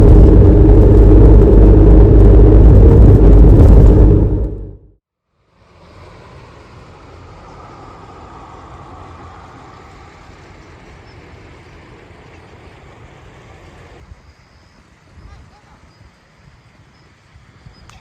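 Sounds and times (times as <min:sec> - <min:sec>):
vehicle rumble and road hiss: 0:00.0 - 0:18.0.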